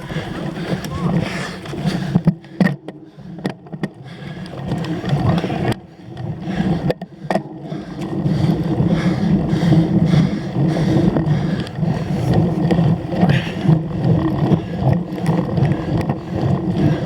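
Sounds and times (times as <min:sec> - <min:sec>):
bike tyre and frame rumble: 0:00.0 - 0:17.0.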